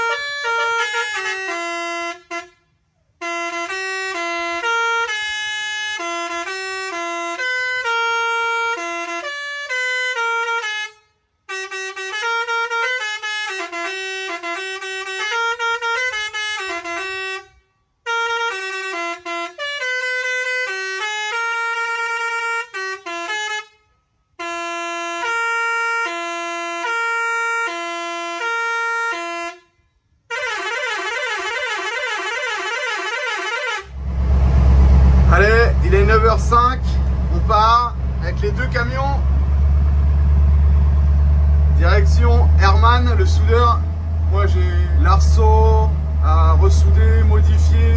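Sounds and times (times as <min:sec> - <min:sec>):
musical truck horn melodies: 0:00.0 - 0:47.9.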